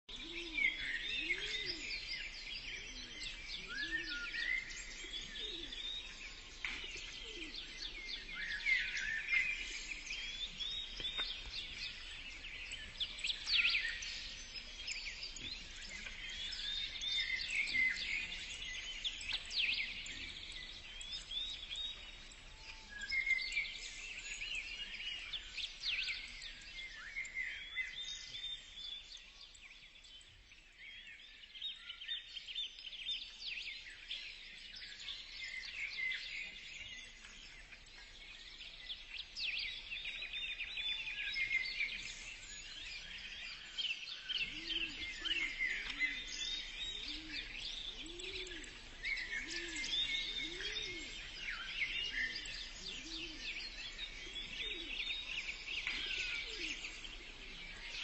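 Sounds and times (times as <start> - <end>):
birds chirping: 0.1 - 58.0.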